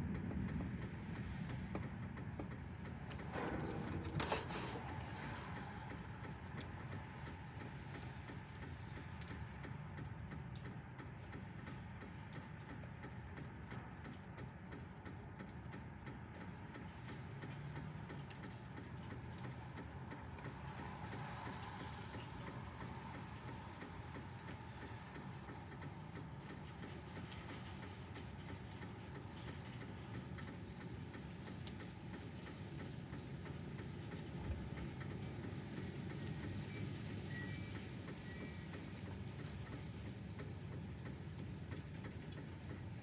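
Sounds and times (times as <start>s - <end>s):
steady rain rush: 0.0s - 43.0s
drips ticking: 4.8s - 43.0s.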